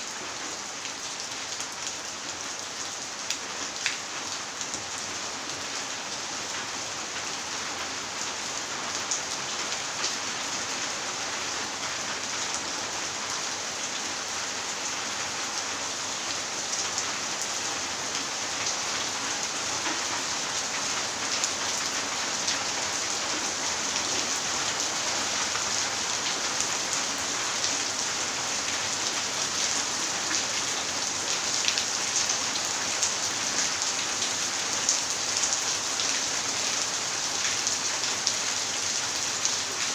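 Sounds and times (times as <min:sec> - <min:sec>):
rain falling on pavement: 0:00.0 - 0:39.9.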